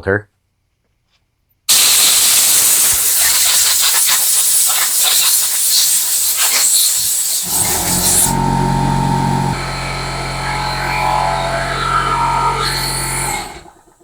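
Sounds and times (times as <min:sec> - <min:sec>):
air blow gun hissing: 0:01.7 - 0:14.0
air compressor motor humming: 0:01.7 - 0:14.0.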